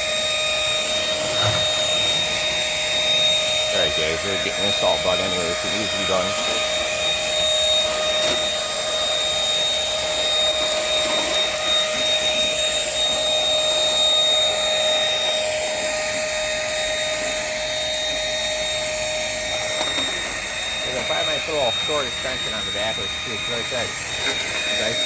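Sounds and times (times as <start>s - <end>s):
stick vacuum running: 0.0s - 25.0s.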